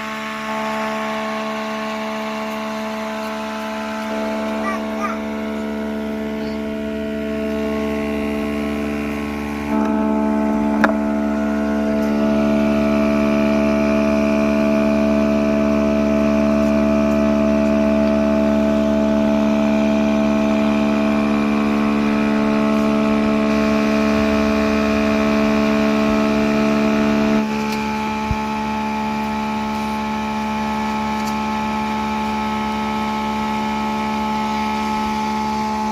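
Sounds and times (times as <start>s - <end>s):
small electric fan motor humming: 0.0s - 35.9s.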